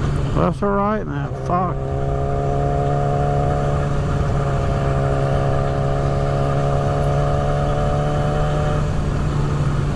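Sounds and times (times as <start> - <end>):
motorcycle engine cruising: 0.0 - 9.9.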